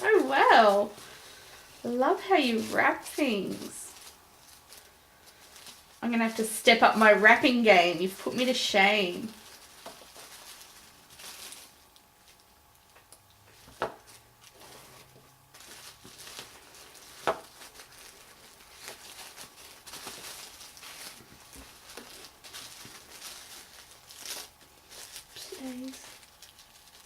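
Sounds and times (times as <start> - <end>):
paper rustling: 0.0 - 12.4, 13.5 - 27.0.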